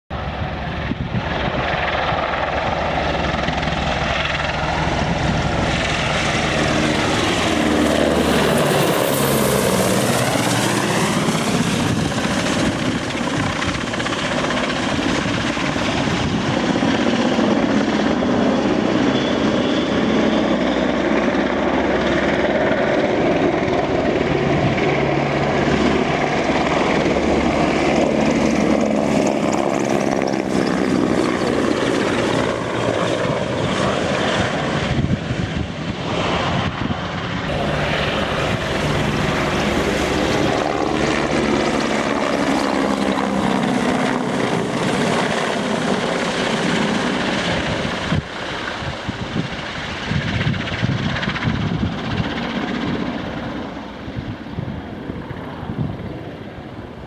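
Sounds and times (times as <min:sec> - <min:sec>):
helicopter flying low: 0:00.1 - 0:57.0.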